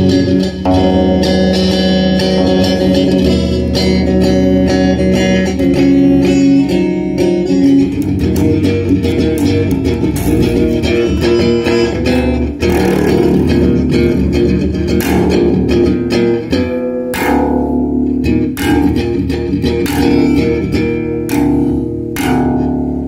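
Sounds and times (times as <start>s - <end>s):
electric bass guitar notes: 0.0s - 23.0s.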